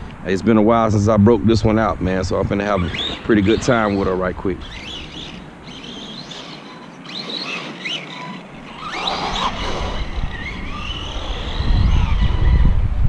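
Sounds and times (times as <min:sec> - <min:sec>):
electric motor whining: 0:01.5 - 0:13.0.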